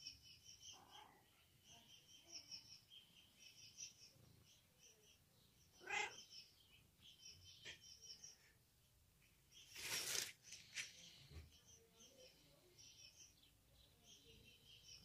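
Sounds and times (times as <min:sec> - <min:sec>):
faint high-pitched chirping: 0:00.0 - 0:15.0.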